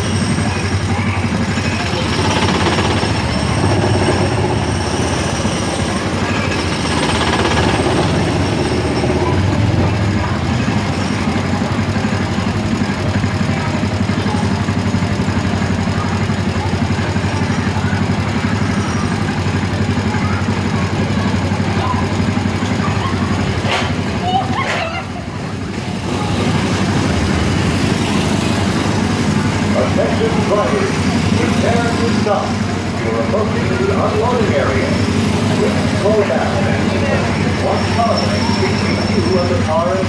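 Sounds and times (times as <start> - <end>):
small gasoline engines droning: 0.0 - 40.0.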